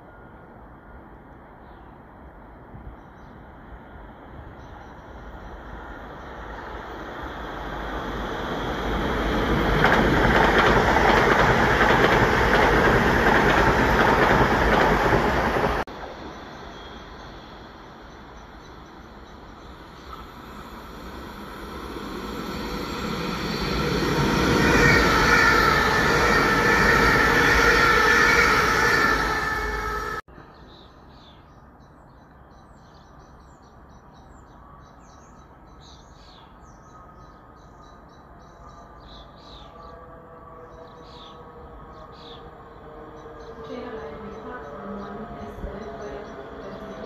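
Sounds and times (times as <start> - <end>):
electric train rumble: 0.0 - 30.3, 38.2 - 47.0.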